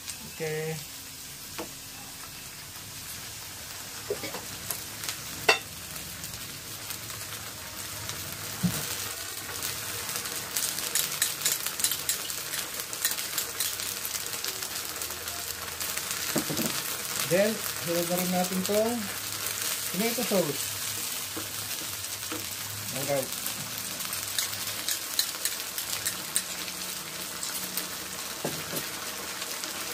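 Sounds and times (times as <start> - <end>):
food sizzling in a frying pan: 0.0 - 29.9.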